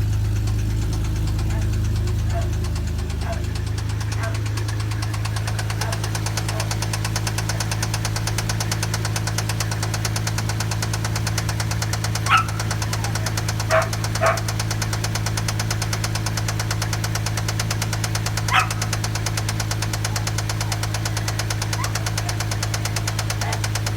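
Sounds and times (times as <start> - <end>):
engine knocking: 0.0 - 23.9.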